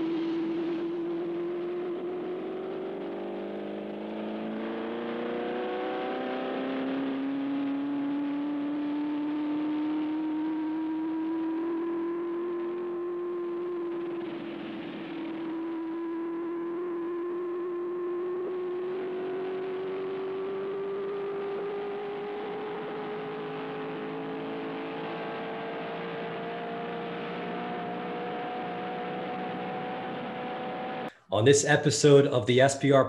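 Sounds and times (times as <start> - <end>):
race car engine accelerating: 0.0 - 32.3.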